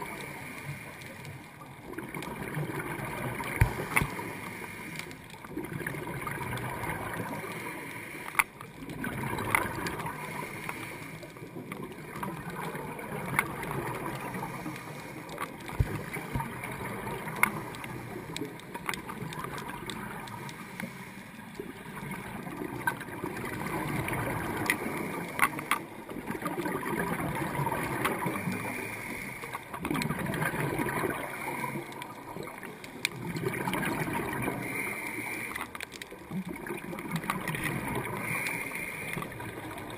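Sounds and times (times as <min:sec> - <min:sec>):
gurgling exhaled bubbles underwater: 0:00.0 - 0:08.0, 0:08.6 - 0:39.9.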